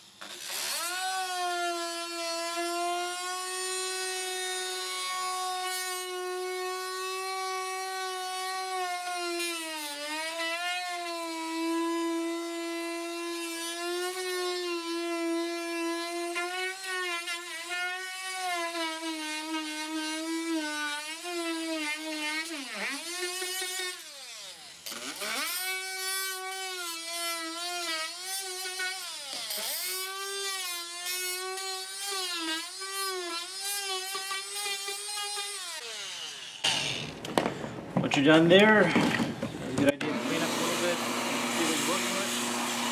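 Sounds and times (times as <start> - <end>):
oscillating multi-tool buzzing: 0.0 - 37.3, 40.0 - 42.9.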